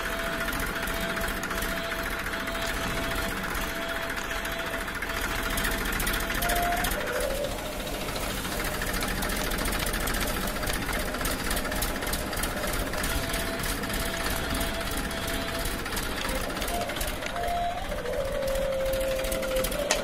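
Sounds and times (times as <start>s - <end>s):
thin motor whine: 0.0s - 20.0s
toy electric motors buzzing: 0.0s - 20.0s.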